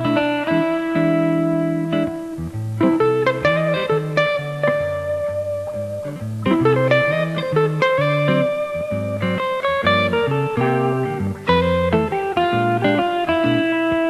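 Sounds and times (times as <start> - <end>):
guitar music: 0.0 - 14.0.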